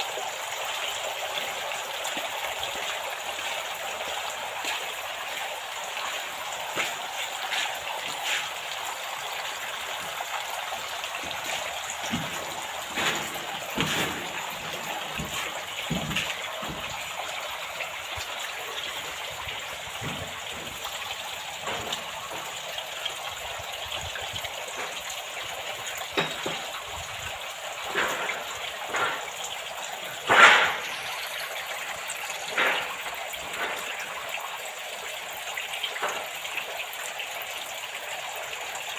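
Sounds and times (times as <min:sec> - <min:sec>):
water splashing into gutter: 0:00.0 - 0:38.9.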